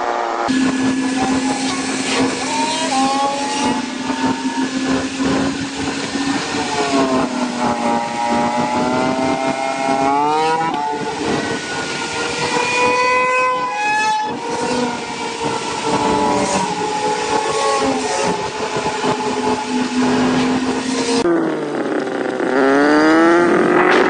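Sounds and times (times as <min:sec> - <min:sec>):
motorcycle engines at speed: 0:00.0 - 0:24.0
wind and road rush: 0:00.0 - 0:24.0.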